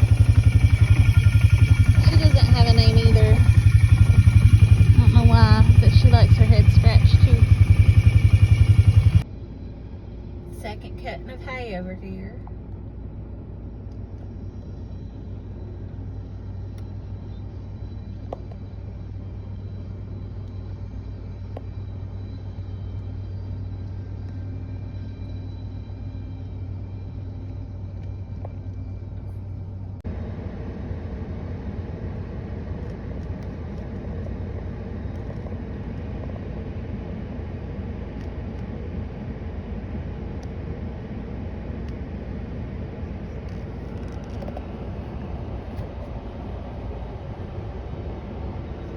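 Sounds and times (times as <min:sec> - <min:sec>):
vehicle engine humming: 0:00.0 - 0:48.9.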